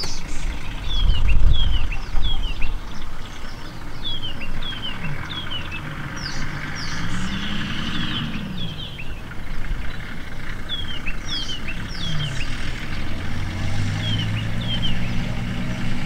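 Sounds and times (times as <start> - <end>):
birds chirping: 0.0 - 16.0
low hum: 0.0 - 16.0.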